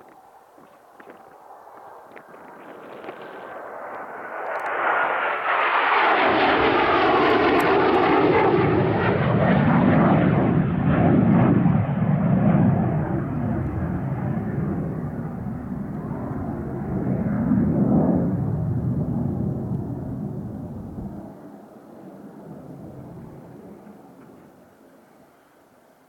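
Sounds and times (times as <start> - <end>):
jet flying past: 1.2 - 25.7.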